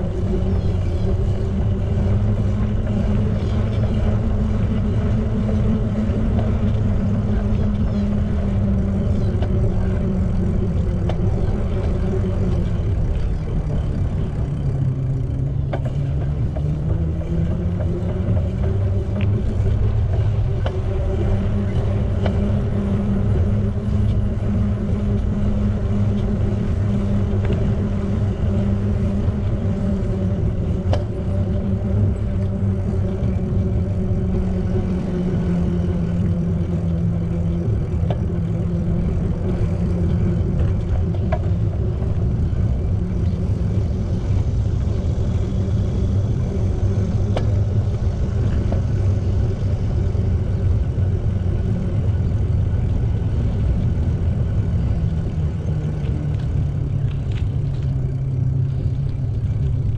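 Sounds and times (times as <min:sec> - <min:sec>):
low rumble with droning hum: 0:00.0 - 0:59.9.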